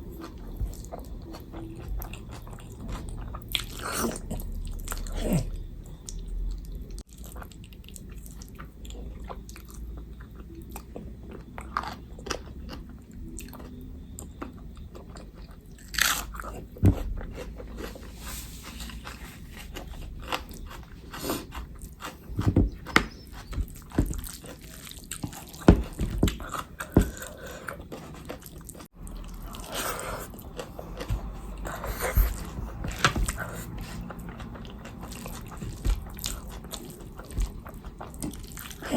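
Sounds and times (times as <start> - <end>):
chewing food: 0.0 - 38.9.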